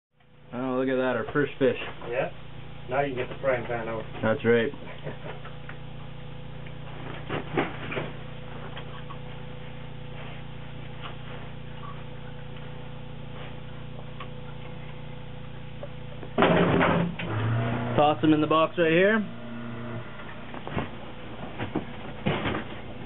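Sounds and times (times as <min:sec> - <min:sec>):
machine hum: 0:00.2 - 0:23.0.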